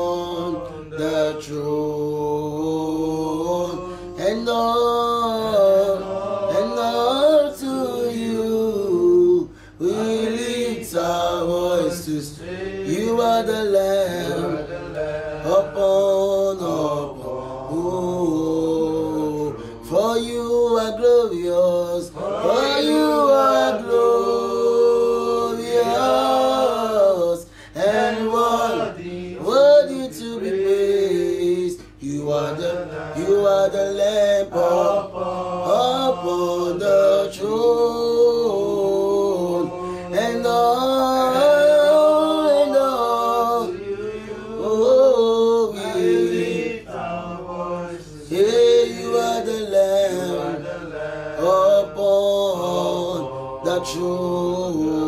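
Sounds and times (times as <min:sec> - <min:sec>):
man singing slow worship song: 0:00.0 - 0:55.0.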